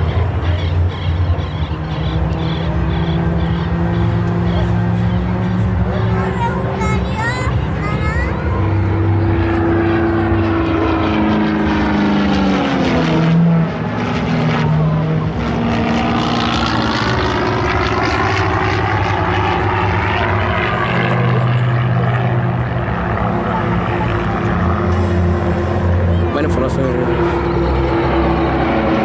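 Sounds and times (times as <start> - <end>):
propeller planes droning past: 0.0 - 29.0.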